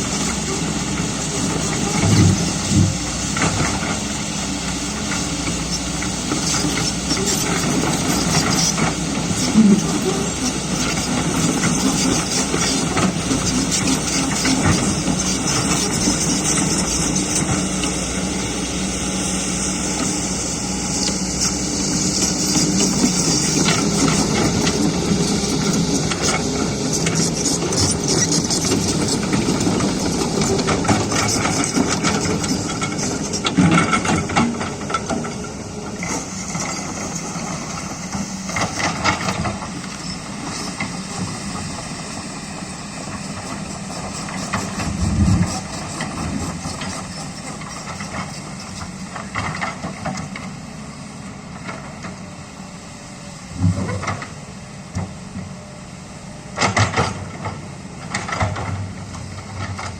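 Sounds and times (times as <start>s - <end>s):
excavator clunks: 0.0s - 52.6s, 53.5s - 55.6s, 56.4s - 59.9s
excavator diesel engine running: 0.0s - 59.9s.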